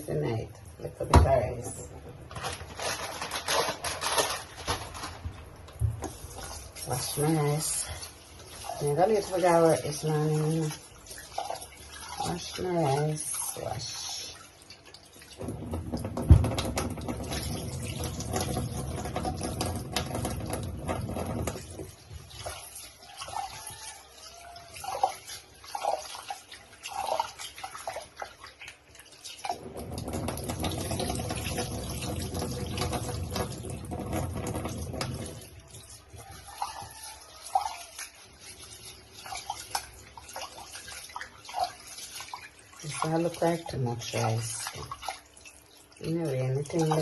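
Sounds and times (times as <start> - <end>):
kitchen tap running: 0.0 - 47.0
water sloshing and splashing: 0.0 - 47.0.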